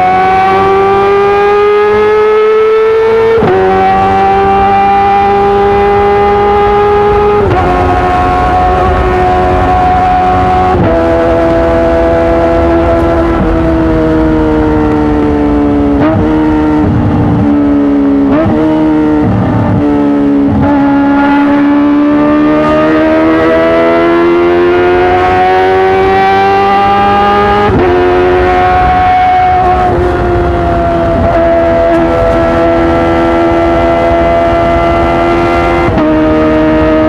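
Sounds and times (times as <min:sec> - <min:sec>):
motorcycle engine revving high: 0:00.0 - 0:37.0.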